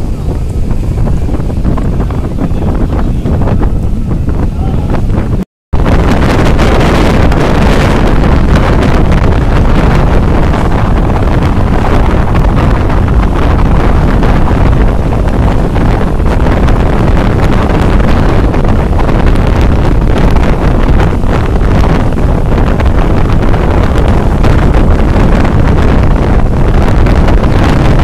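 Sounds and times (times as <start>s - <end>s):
strong wind buffeting microphone: 0.0s - 28.0s.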